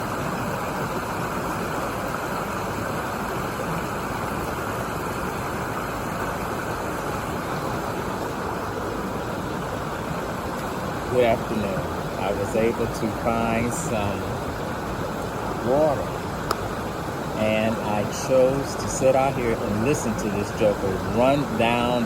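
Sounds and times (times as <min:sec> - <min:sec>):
stream flowing water: 0:00.0 - 0:22.0.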